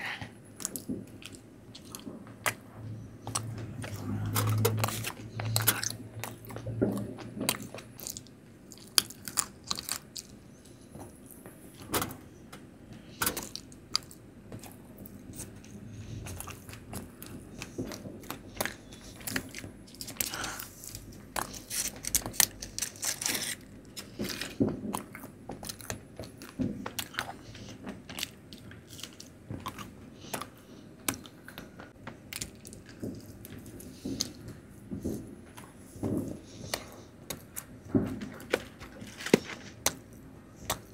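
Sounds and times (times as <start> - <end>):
person chewing with wet smacks: 0.6 - 11.8, 12.9 - 40.9.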